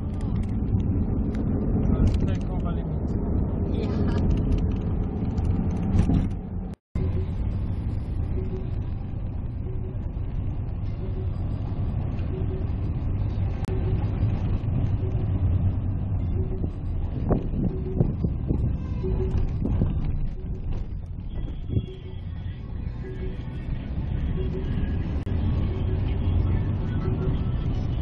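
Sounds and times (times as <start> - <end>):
motor vehicle engine rumble: 0.0 - 28.0.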